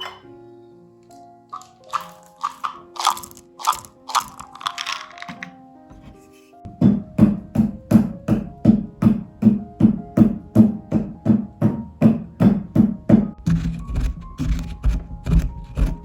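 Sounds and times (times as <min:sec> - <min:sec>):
faint background music: 0:00.0 - 0:16.0.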